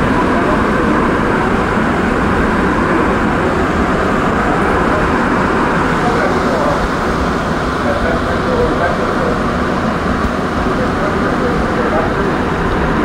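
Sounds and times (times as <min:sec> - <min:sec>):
metro train rumbling in tunnel: 0:00.0 - 0:13.0.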